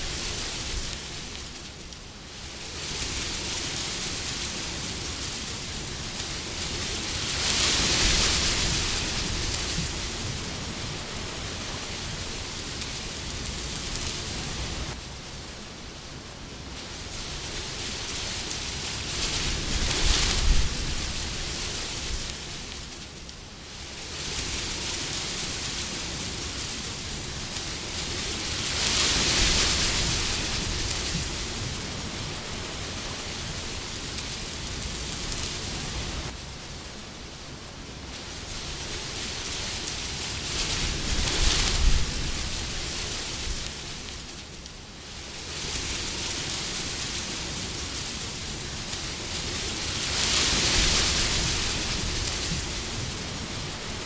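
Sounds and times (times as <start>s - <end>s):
wind blowing: 2.6s - 22.7s, 24.1s - 54.0s.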